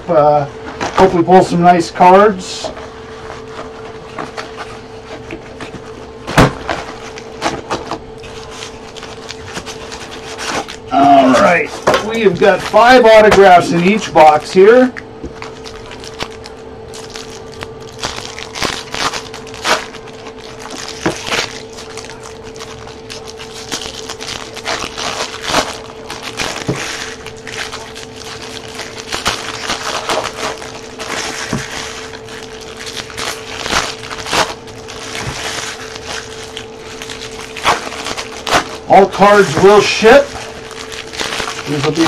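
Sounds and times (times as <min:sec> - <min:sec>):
faint hum: 0:00.0 - 0:42.0
foil wrappers crinkling and tearing: 0:00.0 - 0:42.0.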